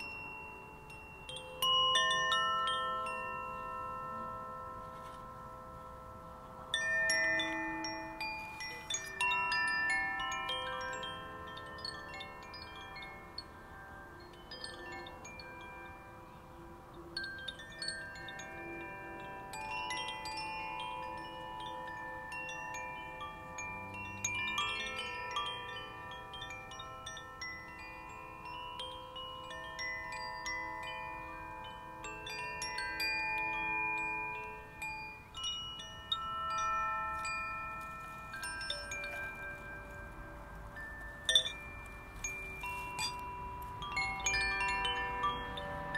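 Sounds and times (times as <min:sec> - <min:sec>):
wind chimes ringing: 0:00.0 - 0:45.9.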